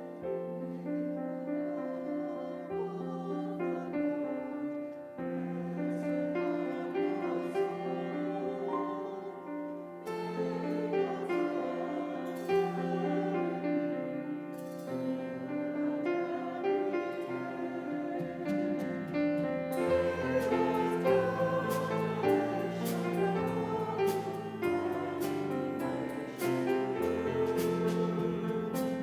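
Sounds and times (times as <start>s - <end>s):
slow keyboard music: 0.0s - 29.0s.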